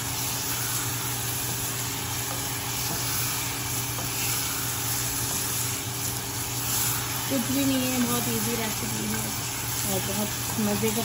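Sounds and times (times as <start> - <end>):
chicken sizzling in hot oil: 0.0 - 11.0
wooden spoon stirring: 0.1 - 11.0.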